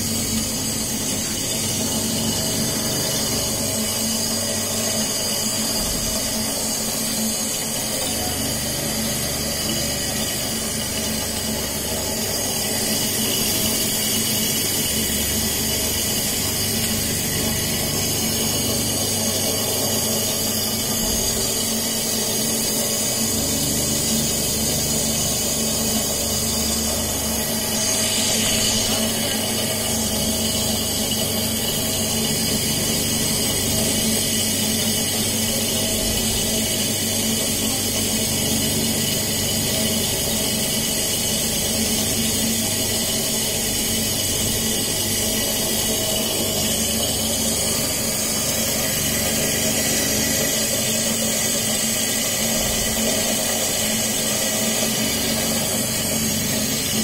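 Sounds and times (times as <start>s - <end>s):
mixing machine motor humming: 0.0s - 57.0s.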